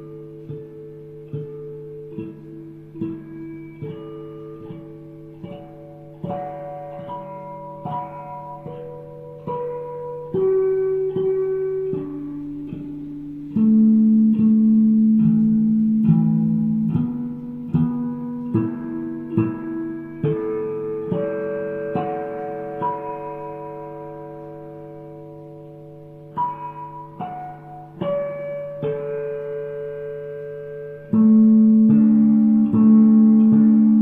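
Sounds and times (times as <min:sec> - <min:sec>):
plucked-string melody: 0:00.0 - 0:34.0.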